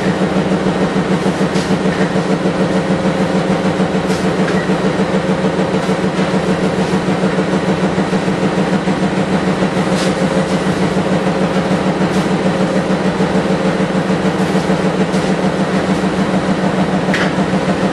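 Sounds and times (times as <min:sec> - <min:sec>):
machine humming with fast pulse: 0:00.0 - 0:17.9.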